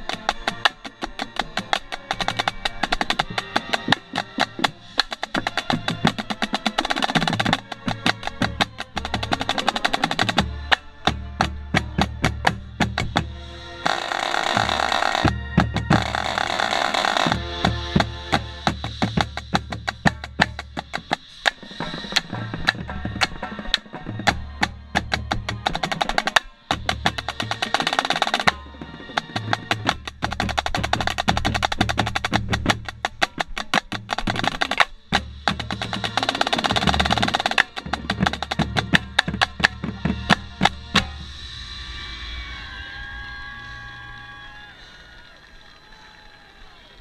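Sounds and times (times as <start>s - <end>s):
marching snare drum rolls: 0.0s - 41.4s.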